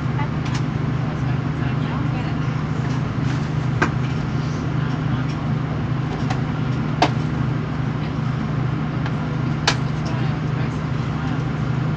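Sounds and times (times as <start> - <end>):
railcar engine and wheels drone: 0.0 - 11.9.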